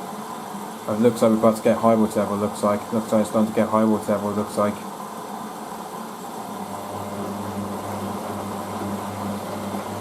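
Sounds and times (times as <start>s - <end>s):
washing machine filling with water: 0.0s - 4.9s, 6.2s - 10.0s.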